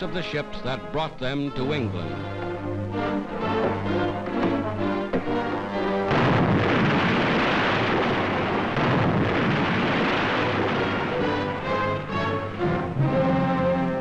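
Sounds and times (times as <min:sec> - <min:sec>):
orchestral music: 0:00.0 - 0:14.0.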